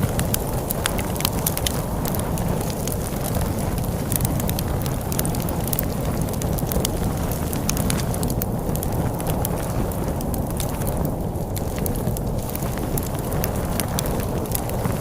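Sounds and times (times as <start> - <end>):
storm wind rumbling: 0.0 - 15.0
wood fire crackling and popping: 0.0 - 15.0.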